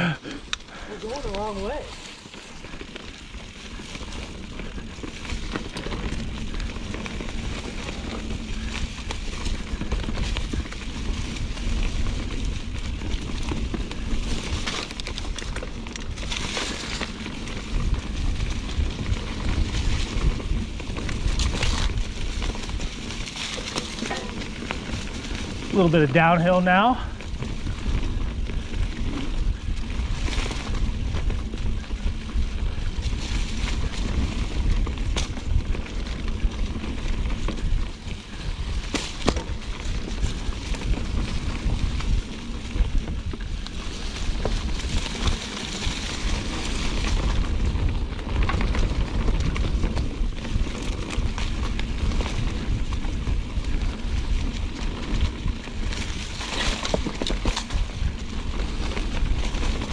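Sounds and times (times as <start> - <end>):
bike tyres rumbling on dirt: 0.0 - 59.9
wind rush on microphone: 0.0 - 59.9.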